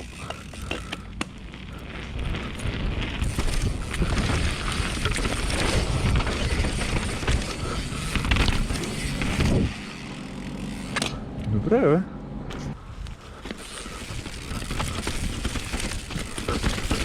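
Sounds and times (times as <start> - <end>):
bike tyres rolling on rough ground: 0.0 - 11.2, 12.8 - 17.0
bike rattling: 0.0 - 11.3, 12.5 - 17.0.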